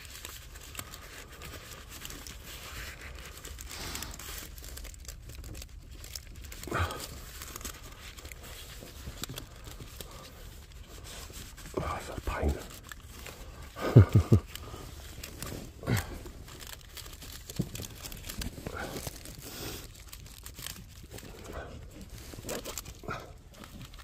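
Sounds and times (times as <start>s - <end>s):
pipe lagging crinkling: 0.0s - 24.0s.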